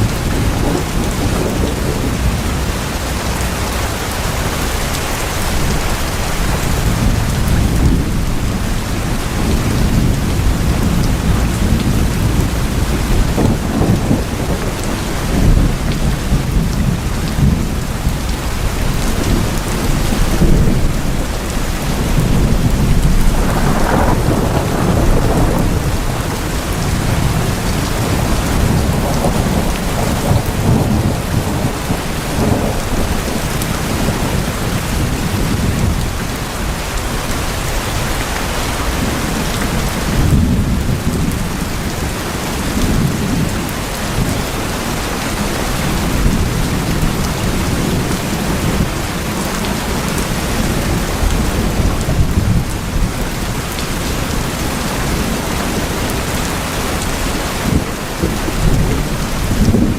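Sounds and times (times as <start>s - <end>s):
heavy rain on a tin roof: 0.0s - 59.9s
thunder rumbling: 0.0s - 59.9s.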